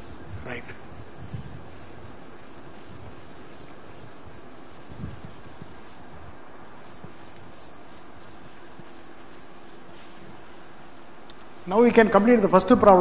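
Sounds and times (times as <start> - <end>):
chalk scratching on blackboard: 0.0 - 13.0
room noise hum: 0.0 - 13.0.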